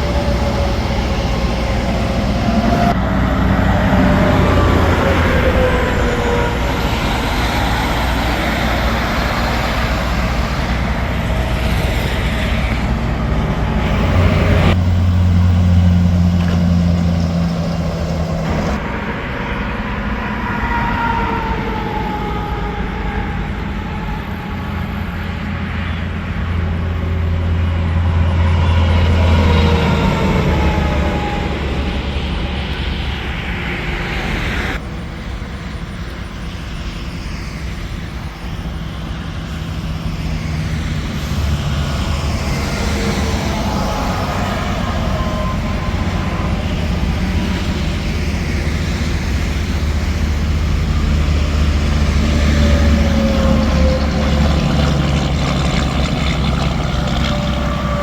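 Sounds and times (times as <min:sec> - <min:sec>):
trucks and traffic passing: 0:00.0 - 0:58.0.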